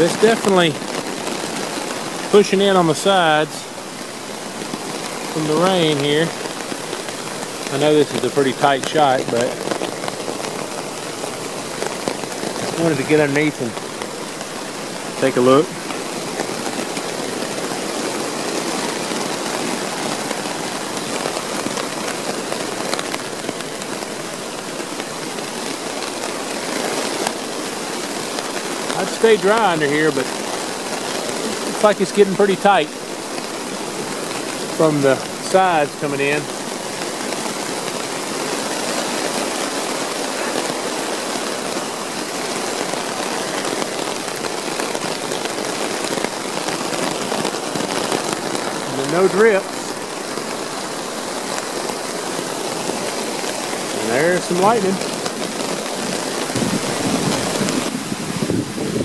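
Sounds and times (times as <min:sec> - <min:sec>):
rain hissing on tarp: 0:00.0 - 0:59.0.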